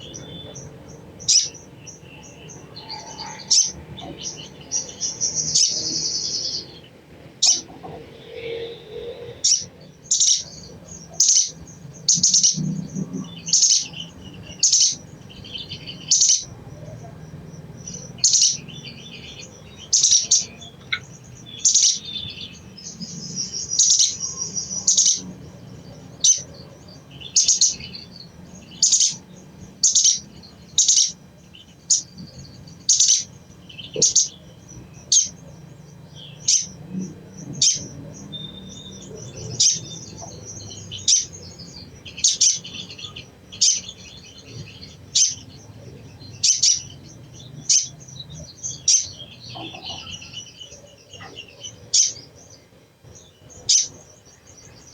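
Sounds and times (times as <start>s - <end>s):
bird chattering call: 0.0s - 52.3s, 53.4s - 54.9s.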